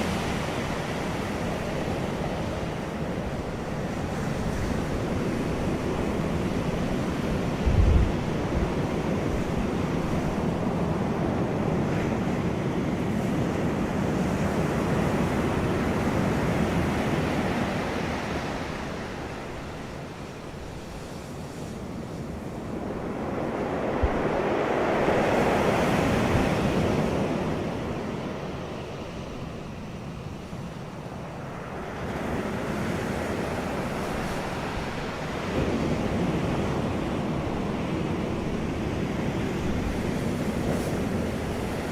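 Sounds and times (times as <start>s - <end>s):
wind blowing across microphone: 0.0s - 41.9s.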